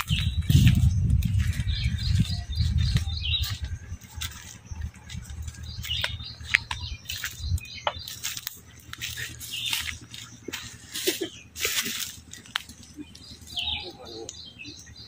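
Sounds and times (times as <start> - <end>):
birds chirping: 0.0 - 15.0
tractor diesel engine droning: 0.0 - 15.0.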